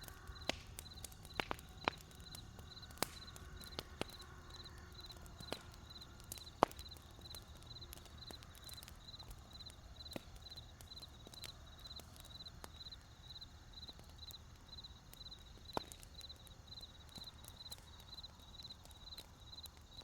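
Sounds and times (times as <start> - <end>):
campfire crackling and popping: 0.0 - 20.0
cricket chirping: 0.0 - 20.0.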